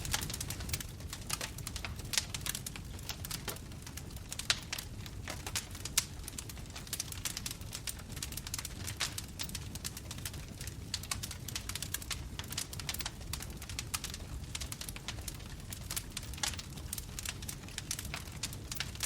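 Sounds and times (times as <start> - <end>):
bonfire crackling and popping: 0.0 - 19.0
low rumble of flames: 0.0 - 19.0.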